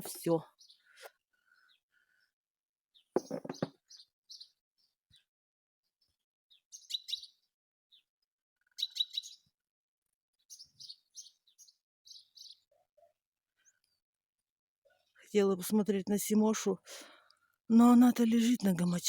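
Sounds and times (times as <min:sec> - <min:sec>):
songbirds chirping: 0:00.0 - 0:05.3, 0:06.0 - 0:09.6, 0:10.4 - 0:14.0, 0:14.9 - 0:19.0.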